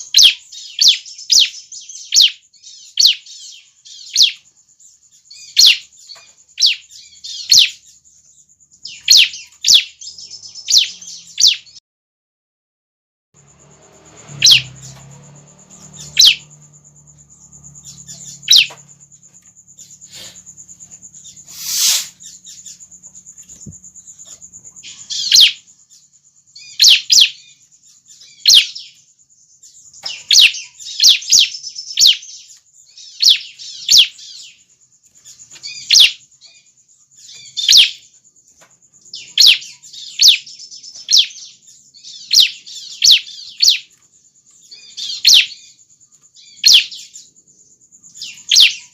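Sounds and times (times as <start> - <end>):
bird chirping: 0.0 - 11.8, 13.4 - 48.9.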